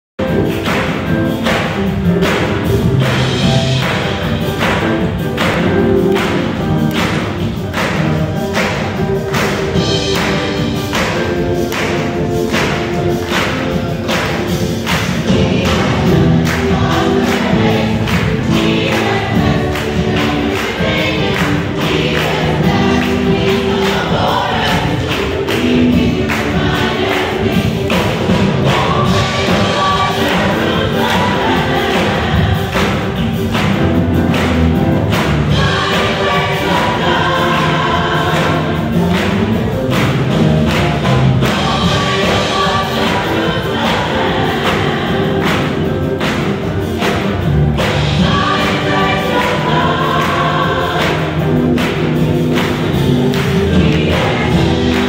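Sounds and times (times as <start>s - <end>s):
choir singing a hymn: 0.2s - 55.0s
hand claps: 0.4s - 24.1s, 27.9s - 41.6s, 42.2s - 48.0s, 48.6s - 55.0s.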